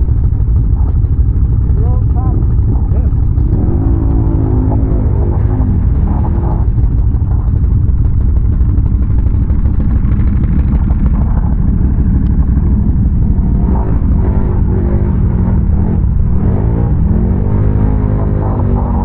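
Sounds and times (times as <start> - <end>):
atv engine rumbling: 0.0 - 19.0.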